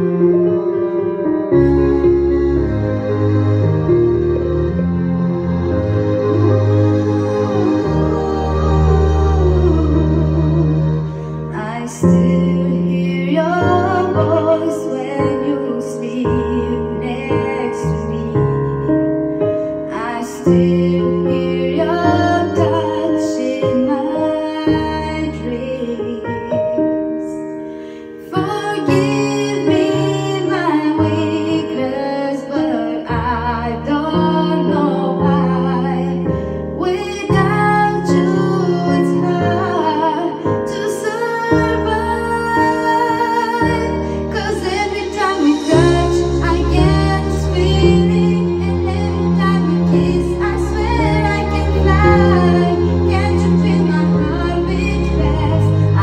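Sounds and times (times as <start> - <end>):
sustained keyboard chords: 0.0 - 56.0
woman singing into microphone: 7.1 - 18.7, 19.9 - 27.5, 28.2 - 56.0.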